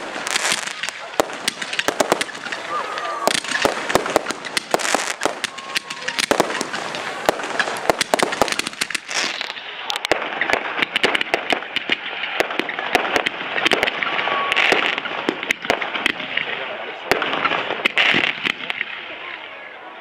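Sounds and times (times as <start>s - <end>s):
fireworks bangs and pops: 0.0s - 19.5s
fireworks crackling: 0.0s - 20.0s.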